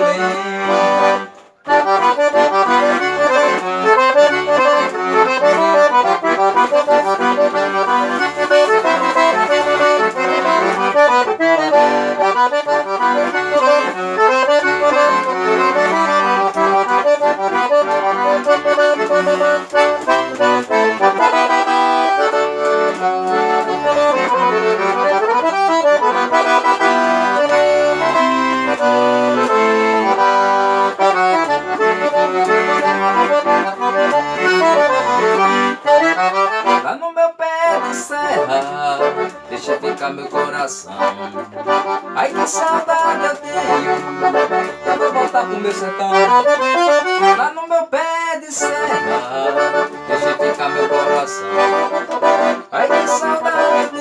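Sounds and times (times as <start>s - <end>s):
accordion melody in chords: 0.0s - 54.0s.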